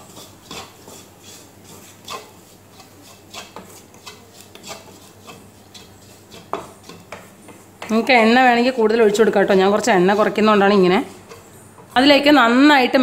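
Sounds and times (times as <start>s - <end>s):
wooden spatula scraping a frying pan: 0.0s - 12.6s.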